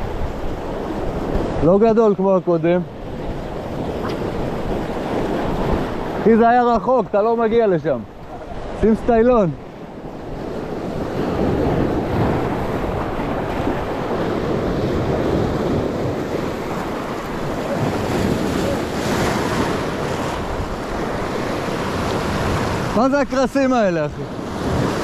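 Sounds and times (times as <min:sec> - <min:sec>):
waves breaking on rocky shore: 0:00.0 - 0:25.0.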